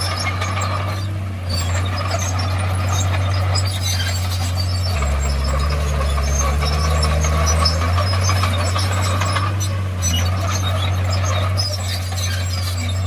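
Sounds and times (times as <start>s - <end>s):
bulldozer diesel engine running: 0.0s - 13.0s
metallic clinks and squeaks: 0.0s - 13.0s.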